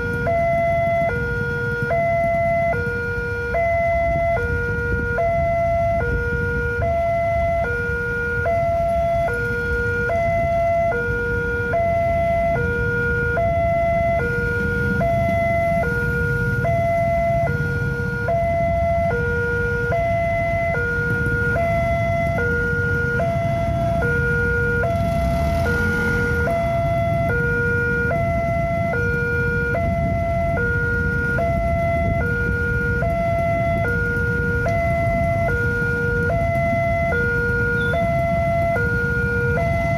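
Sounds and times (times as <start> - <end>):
two-tone crossing alarm: 0.0 - 39.9
vehicle engines idling: 6.6 - 39.9.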